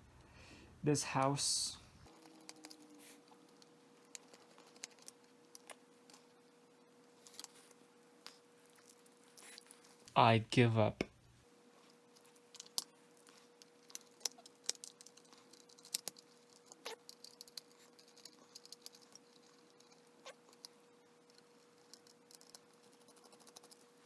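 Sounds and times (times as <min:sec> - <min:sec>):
faint steady hum: 0:00.0 - 0:24.0
small tool clicking and scratching: 0:02.1 - 0:06.4, 0:07.1 - 0:10.2, 0:11.8 - 0:24.0.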